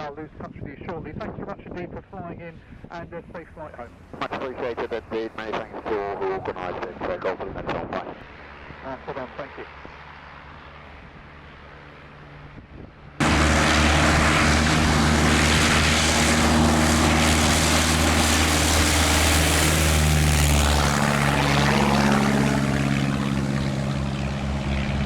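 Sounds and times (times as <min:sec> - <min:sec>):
propeller aircraft engine: 0:02.6 - 0:25.0.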